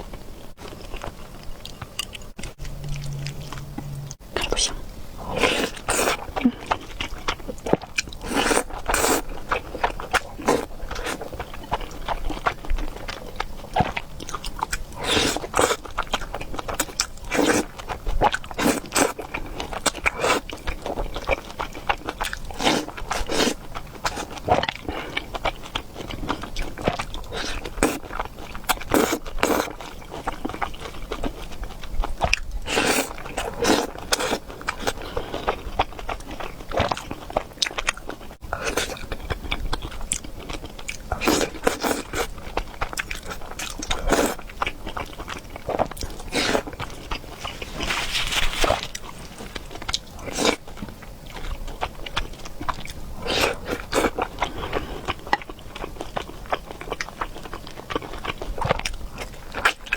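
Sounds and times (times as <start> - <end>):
chewing and biting: 5.4 - 59.9.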